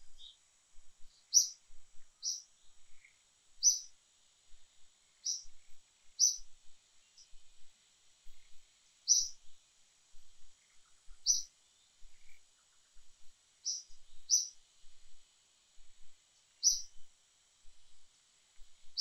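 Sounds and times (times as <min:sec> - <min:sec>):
small bird chirping: 0:00.0 - 0:00.4, 0:01.0 - 0:15.2, 0:15.8 - 0:18.0, 0:18.6 - 0:19.0
insects humming: 0:00.0 - 0:19.0.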